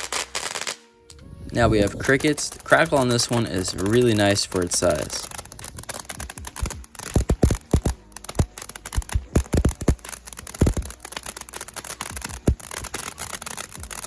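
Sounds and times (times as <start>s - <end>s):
firework crackling pops: 0.0s - 14.0s
firework spray hissing: 0.0s - 14.0s.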